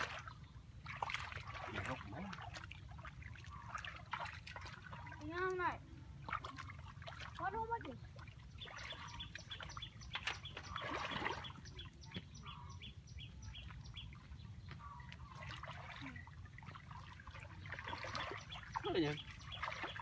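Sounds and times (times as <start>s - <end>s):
feet sloshing through muddy water: 0.0s - 20.0s.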